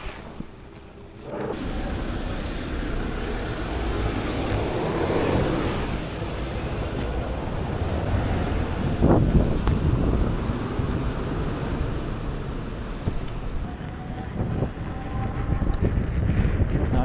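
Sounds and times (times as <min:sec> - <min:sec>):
road noise: 0:00.0 - 0:17.0
wind noise on microphone: 0:00.0 - 0:17.0.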